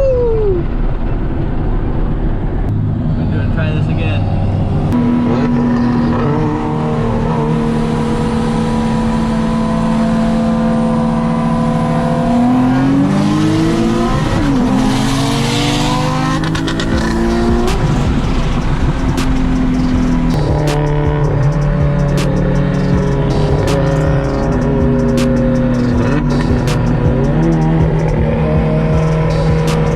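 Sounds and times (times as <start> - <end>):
car engine revving hard: 2.8 - 29.9.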